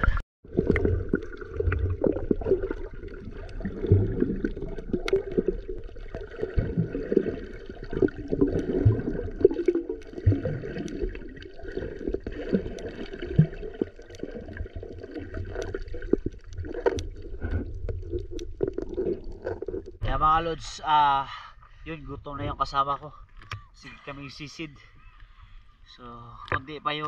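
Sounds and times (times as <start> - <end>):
water churning underwater: 0.0 - 27.0.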